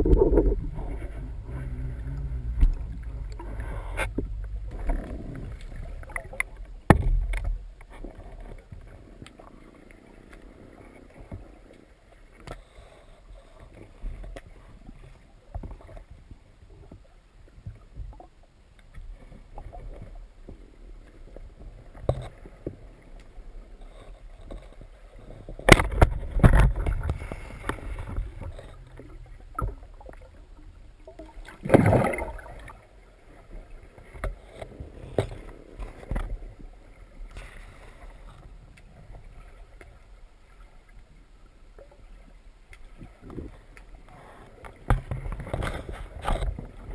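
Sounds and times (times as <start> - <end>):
churning water noise: 0.0 - 46.9
water moving underwater: 0.0 - 46.9.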